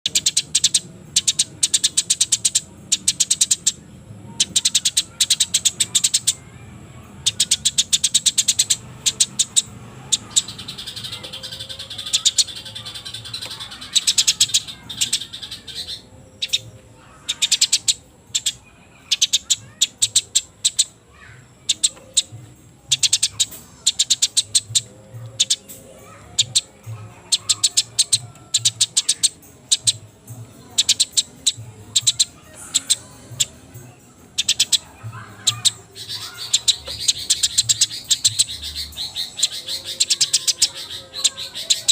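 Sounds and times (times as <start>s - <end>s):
bird warbling: 0.0s - 6.6s, 7.2s - 30.0s, 30.7s - 41.9s
sparrows chirping: 0.0s - 41.9s.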